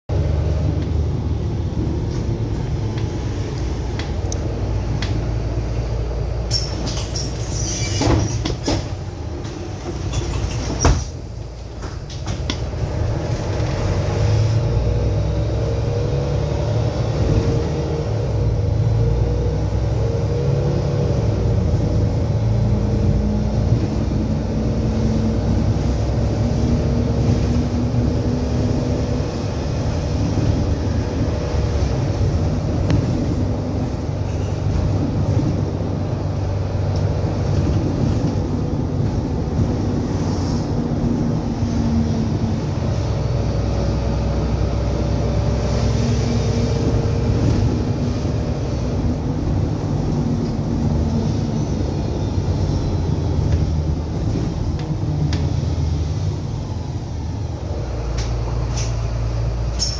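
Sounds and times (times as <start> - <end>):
bus engine drone: 0.1 - 59.9
road rumble: 0.1 - 59.9.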